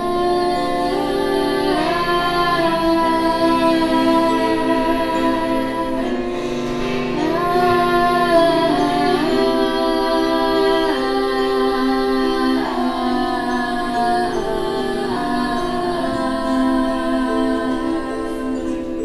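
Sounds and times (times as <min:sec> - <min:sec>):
music with singing: 0:00.0 - 0:19.0.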